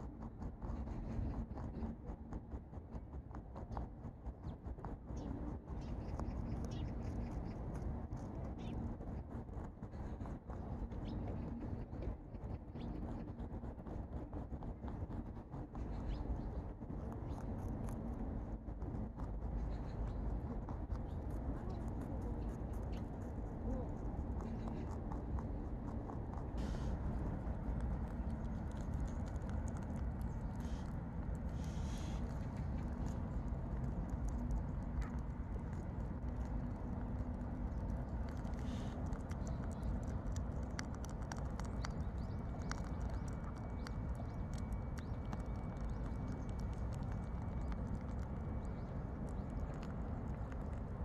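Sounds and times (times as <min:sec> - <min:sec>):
low steady rumble: 0:00.0 - 0:51.0
rabbit chewing greens: 0:00.0 - 0:51.0.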